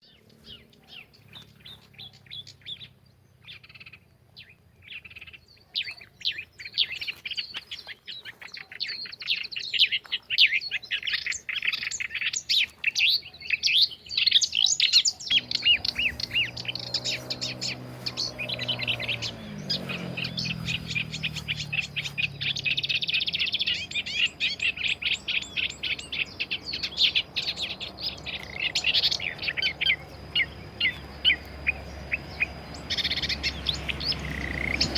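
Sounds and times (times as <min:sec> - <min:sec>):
songbirds chirping in a chorus: 0:00.0 - 0:34.9.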